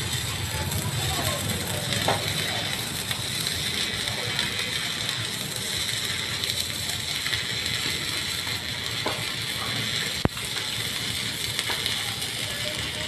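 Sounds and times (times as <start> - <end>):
arc welding crackling hiss: 0.0 - 13.0.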